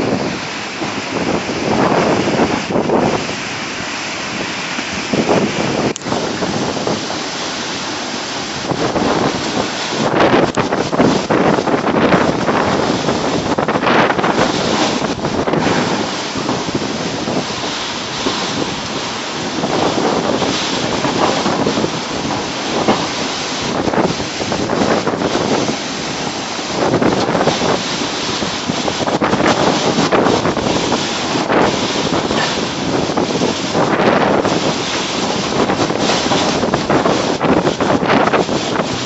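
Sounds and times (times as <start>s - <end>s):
rain falling: 0.0s - 39.0s
wind gusting on microphone: 0.0s - 39.0s.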